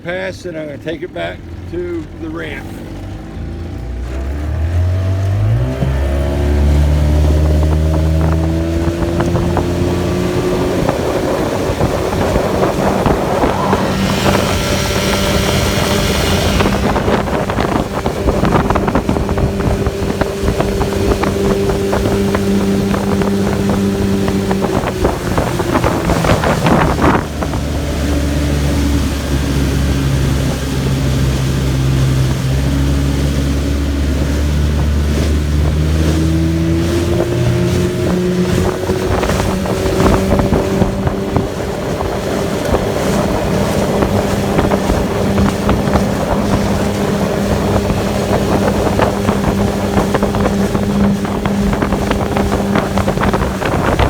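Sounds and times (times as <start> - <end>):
outboard motor running: 0.0 - 54.0
wind and water rushing: 0.0 - 54.0.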